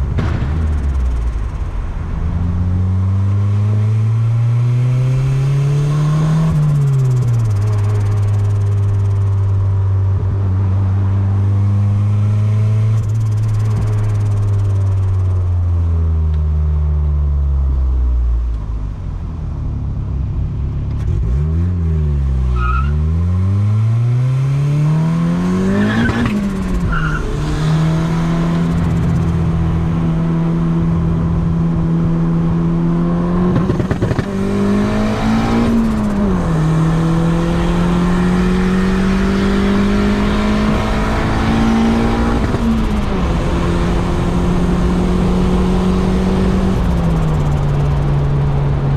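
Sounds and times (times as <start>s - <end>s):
car engine revving: 0.0s - 15.5s, 19.9s - 48.9s.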